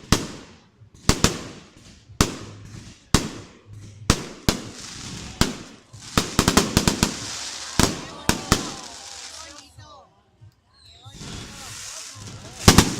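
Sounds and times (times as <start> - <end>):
fireworks bangs with rumbling echo: 0.0 - 9.7, 11.1 - 12.9
fireworks crackling: 0.0 - 12.9.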